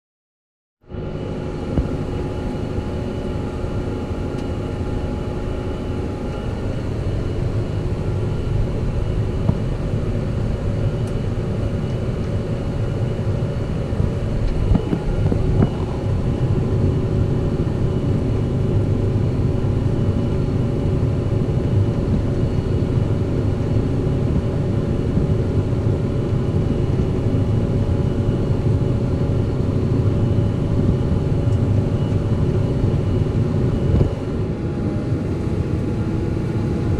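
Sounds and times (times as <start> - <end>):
engine whine: 0.8 - 36.9.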